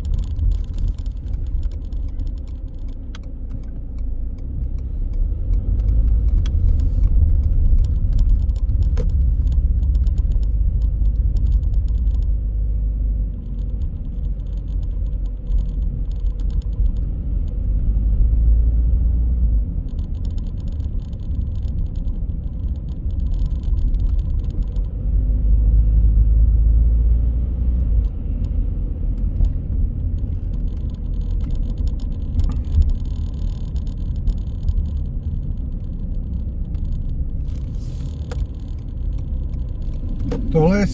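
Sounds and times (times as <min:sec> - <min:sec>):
light rattling ticks: 0:00.0 - 0:17.9, 0:19.6 - 0:25.2, 0:27.6 - 0:40.9
car road and engine rumble: 0:00.0 - 0:40.9.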